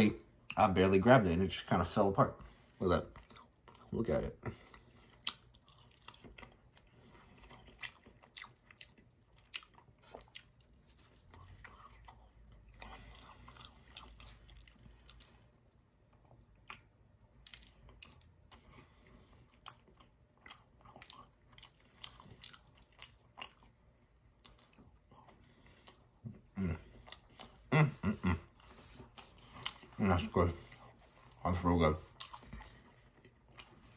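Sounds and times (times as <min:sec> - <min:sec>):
chewing food: 0:02.4 - 0:33.9.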